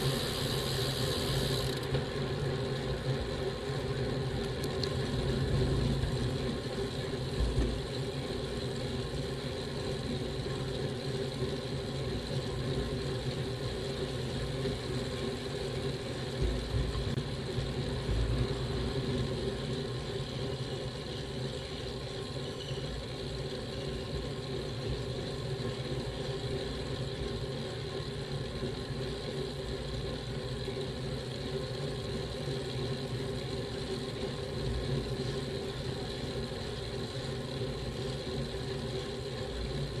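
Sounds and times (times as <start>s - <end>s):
wind: 0.0s - 40.0s.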